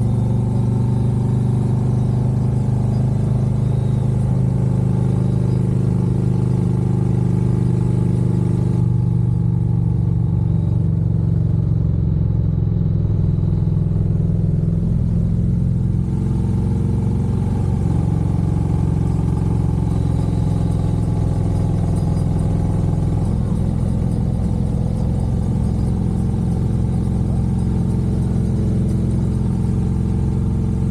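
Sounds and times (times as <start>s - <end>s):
motorcycle engine low exhaust note: 0.0s - 30.9s.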